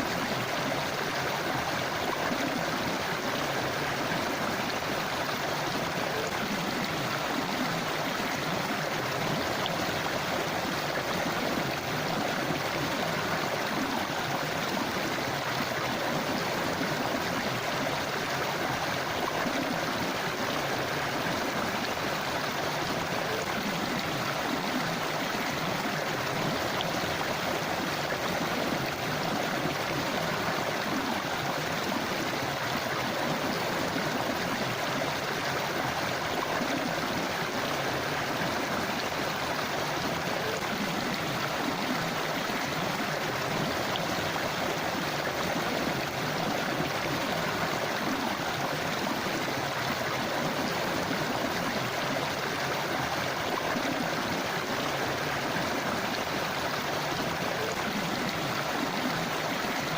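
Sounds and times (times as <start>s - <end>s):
river flowing over rocks: 0.0s - 59.9s.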